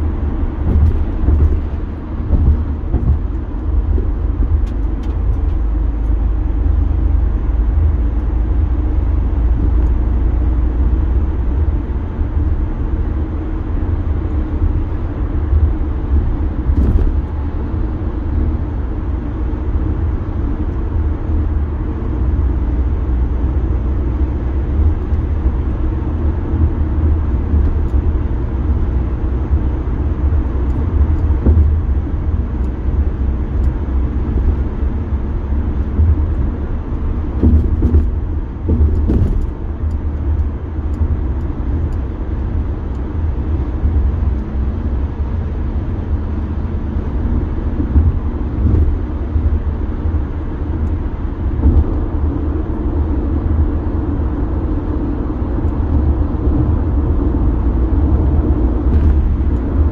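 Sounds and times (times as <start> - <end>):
car road and tyre noise inside cabin: 0.0 - 59.9.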